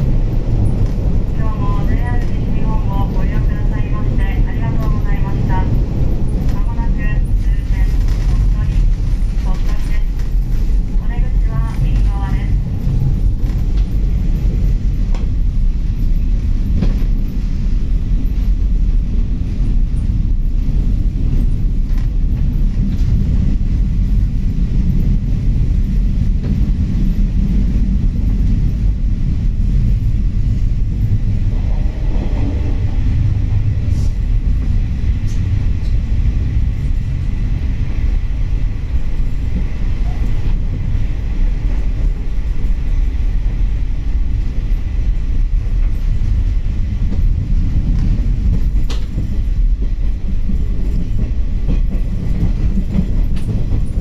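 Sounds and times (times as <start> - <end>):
train rumble from inside: 0.0 - 54.0.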